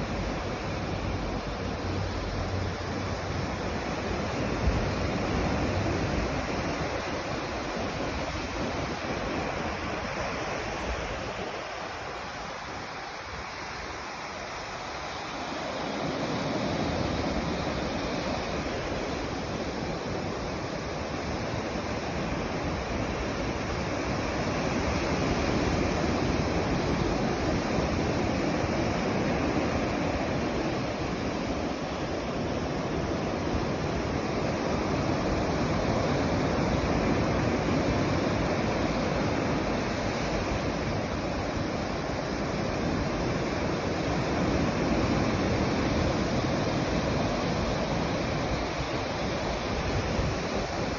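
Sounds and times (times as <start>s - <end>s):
waves breaking on beach: 0.0s - 50.9s
wind: 0.0s - 50.9s.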